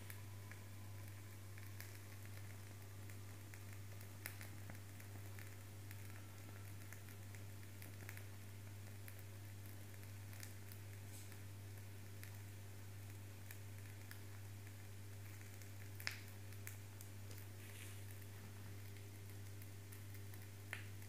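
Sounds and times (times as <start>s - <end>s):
fire crackling: 0.0s - 21.0s
steady low hum: 0.0s - 21.0s.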